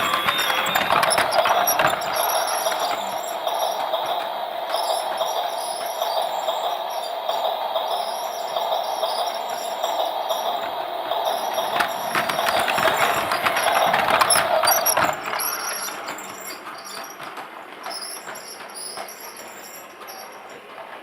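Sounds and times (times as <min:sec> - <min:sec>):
toy train motor whine: 0:00.0 - 0:20.5
toy train clicking and rattling: 0:00.0 - 0:21.0.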